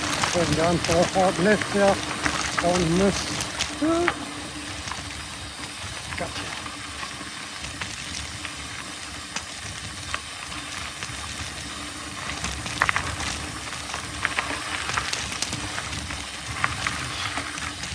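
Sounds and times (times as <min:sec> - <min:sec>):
bike clatter: 0:00.0 - 0:17.9
bike clicks and rattles: 0:00.0 - 0:17.9
bike tyres hissing on dirt: 0:00.0 - 0:17.9.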